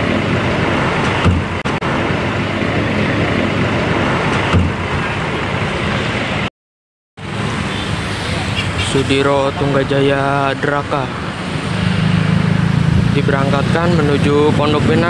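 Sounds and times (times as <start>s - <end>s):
vehicle engine noise: 0.0s - 6.5s, 7.2s - 15.0s.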